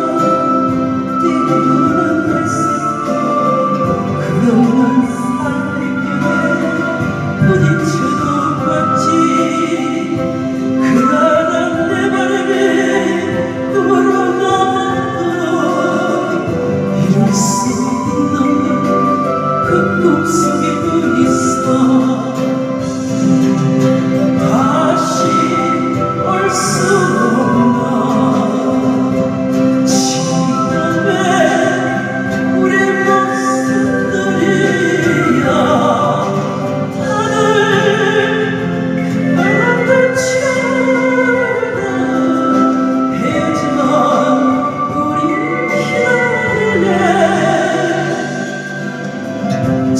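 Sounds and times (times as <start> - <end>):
musical accompaniment: 0.0 - 49.9
person singing: 0.0 - 49.9.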